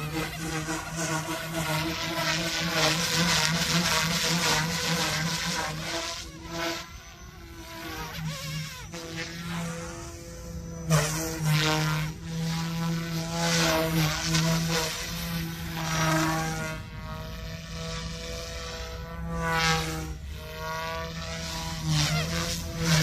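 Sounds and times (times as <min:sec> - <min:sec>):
rc helicopter rotor hum: 0:00.0 - 0:23.0.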